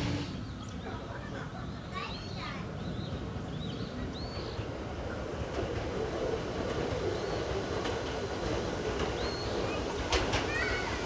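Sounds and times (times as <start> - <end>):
electric train rumbling on rails: 0.0 - 11.0.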